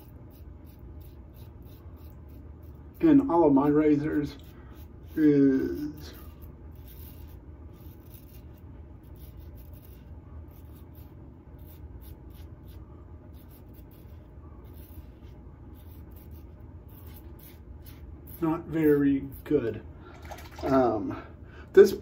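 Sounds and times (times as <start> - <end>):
razor scraping stubble: 0.0 - 20.9.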